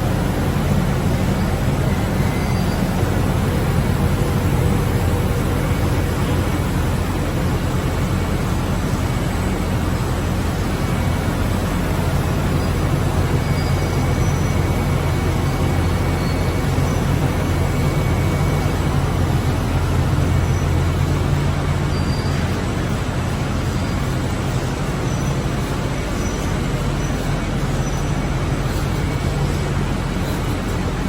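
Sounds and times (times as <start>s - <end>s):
factory machinery drone: 0.0s - 31.0s
low hum: 0.0s - 31.0s.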